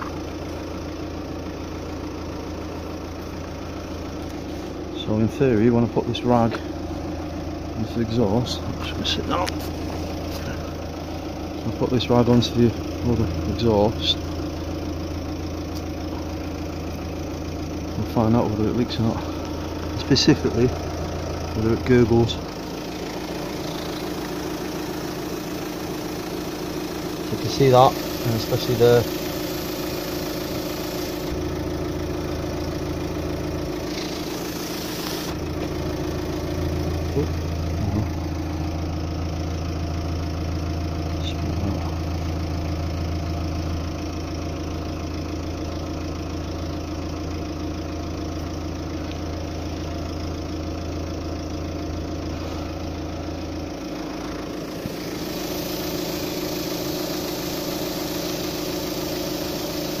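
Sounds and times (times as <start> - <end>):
car engine idling: 0.0 - 60.0
exhaust gas leaking: 0.0 - 60.0.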